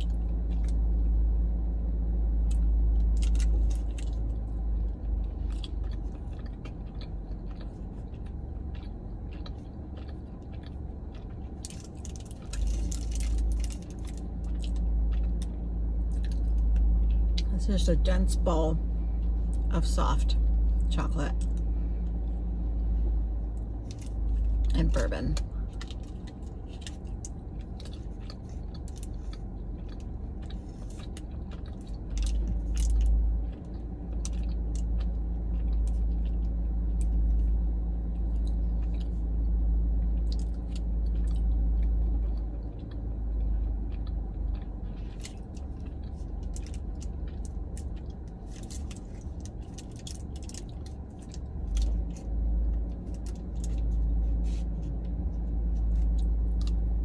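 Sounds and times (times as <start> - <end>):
close-up chewing with wet clicks: 0.0 - 1.2, 2.4 - 17.8, 23.4 - 57.0
deep low rumble: 0.0 - 57.0.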